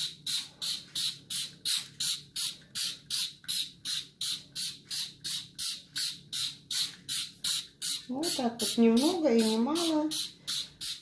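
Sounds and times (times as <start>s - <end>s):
spray bottle hissing sprays: 0.0s - 11.0s.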